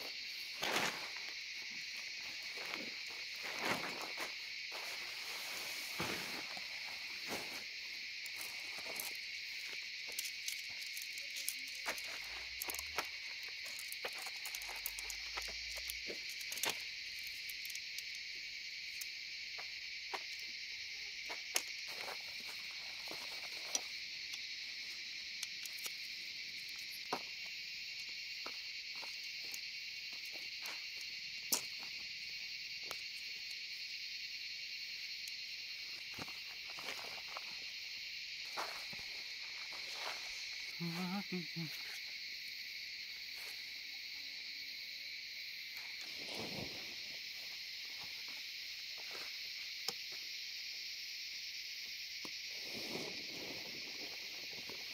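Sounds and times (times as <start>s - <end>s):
night insects buzzing: 0.0s - 54.9s.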